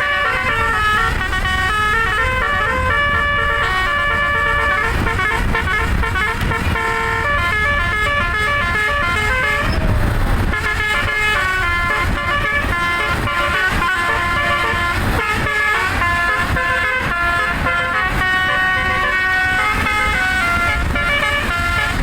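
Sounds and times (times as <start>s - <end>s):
musical air horn melody: 0.0s - 22.0s
rush of noise: 0.0s - 22.0s
steady low rumble: 0.0s - 22.0s.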